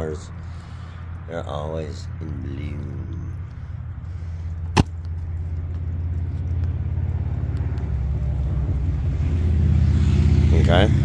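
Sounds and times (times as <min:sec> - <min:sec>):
vehicle engine idling: 0:00.0 - 0:09.5.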